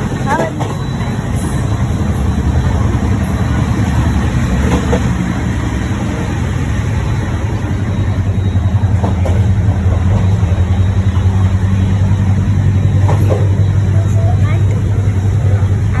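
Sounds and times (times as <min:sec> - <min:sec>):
train rumbling inside coach: 0:00.0 - 0:16.0.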